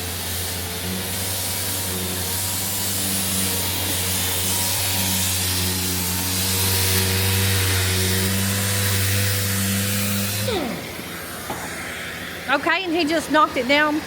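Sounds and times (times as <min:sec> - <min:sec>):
power sander running: 0:00.0 - 0:13.5.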